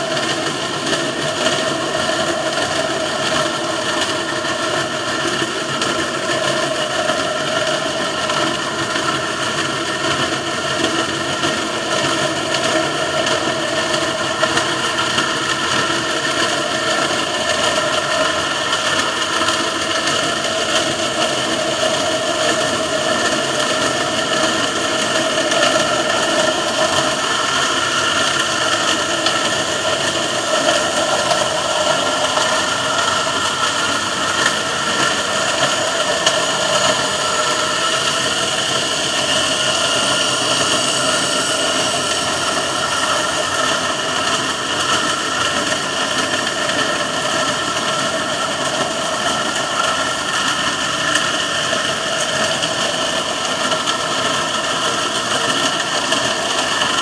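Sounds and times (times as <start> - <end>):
ship engine hum underwater: 0.0 - 57.0
underwater hiss: 0.0 - 57.0.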